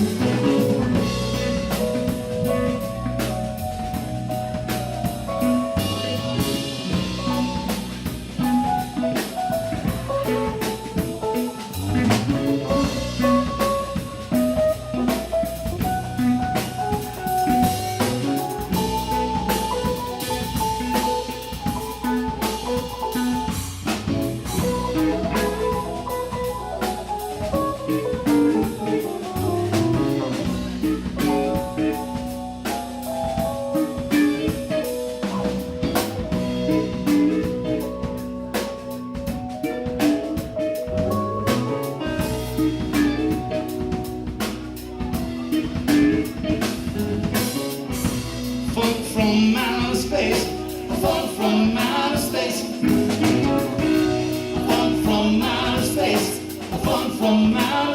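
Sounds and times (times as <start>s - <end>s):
drum kit beat: 0.0s - 57.9s
funk band playing: 0.0s - 57.9s
guitar line: 0.0s - 57.9s.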